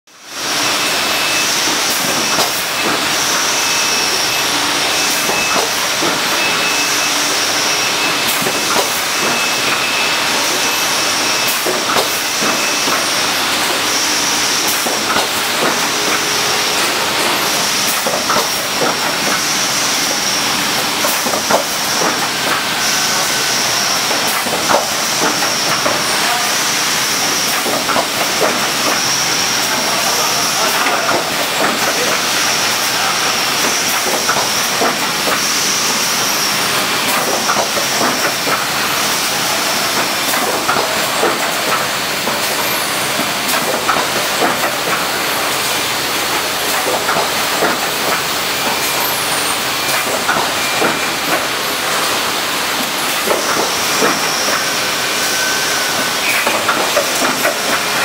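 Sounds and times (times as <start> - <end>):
high machine whine: 0.1 - 58.0
machinery hiss: 0.3 - 58.0
machine clicks and clacks: 1.6 - 7.0, 8.0 - 58.0.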